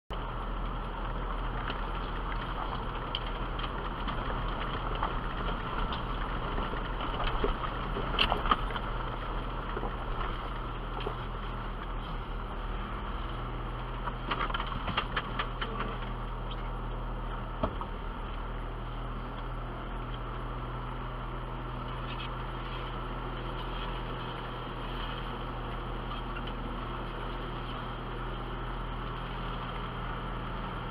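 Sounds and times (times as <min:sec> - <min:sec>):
car engine at low revs: 0:00.1 - 0:30.9.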